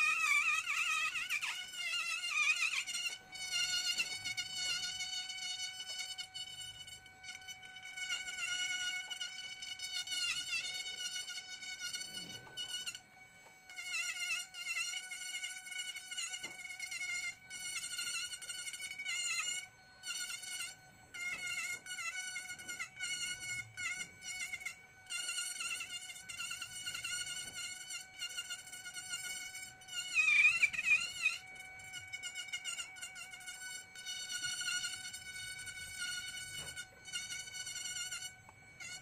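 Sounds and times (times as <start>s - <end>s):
rotary carving tool whining: 0.0s - 39.0s.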